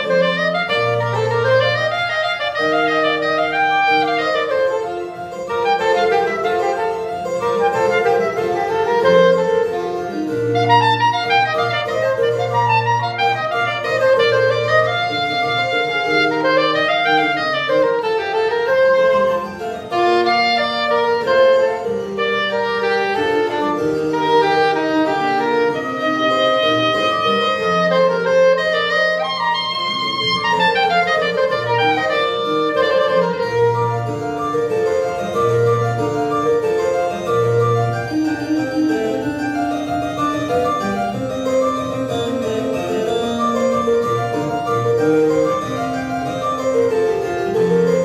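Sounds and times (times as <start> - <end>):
soprano saxophone runs: 0.0 - 48.0.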